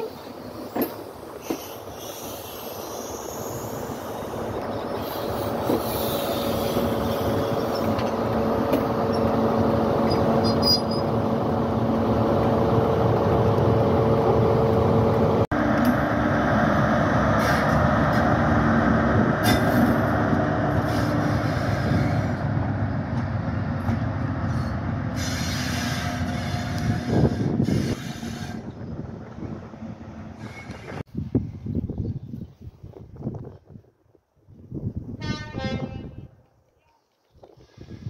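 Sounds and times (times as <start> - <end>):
train diesel engine drone: 0.0 - 31.1.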